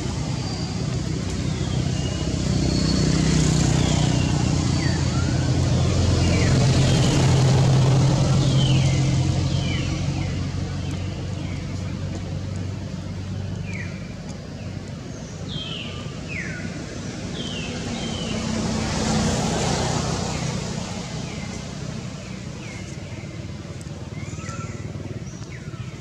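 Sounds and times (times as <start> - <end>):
motor vehicle passing: 0.0 - 14.2, 16.5 - 26.0.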